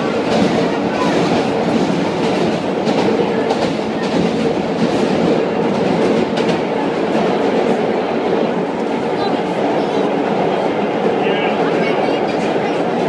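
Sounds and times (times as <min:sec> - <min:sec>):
rail clicks: 0:00.0 - 0:13.0
subway car wheels rumbling: 0:00.0 - 0:13.0.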